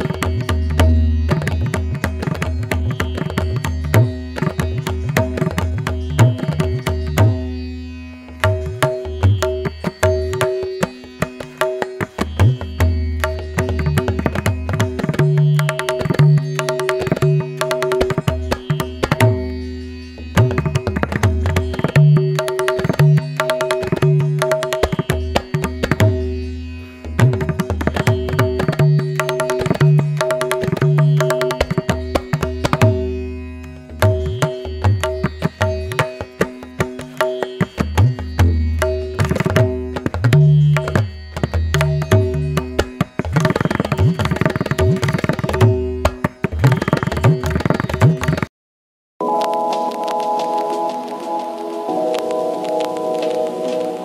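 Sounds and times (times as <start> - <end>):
hand percussion rhythm: 0.0 - 48.5, 49.2 - 54.0.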